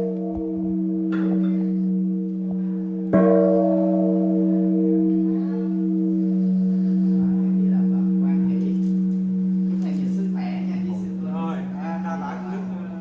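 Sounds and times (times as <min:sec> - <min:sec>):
large temple bell ringing: 0:00.0 - 0:13.0.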